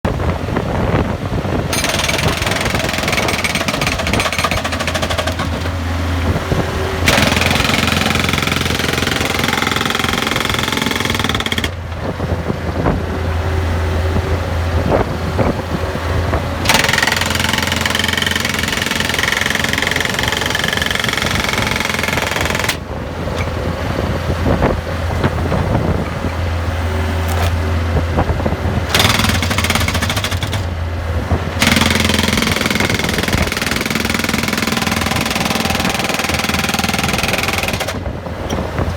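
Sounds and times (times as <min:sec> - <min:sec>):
loader engine running: 0:00.1 - 0:38.9
hydraulic breaker hammer pounding: 0:00.9 - 0:13.0, 0:16.4 - 0:23.8, 0:27.2 - 0:38.9.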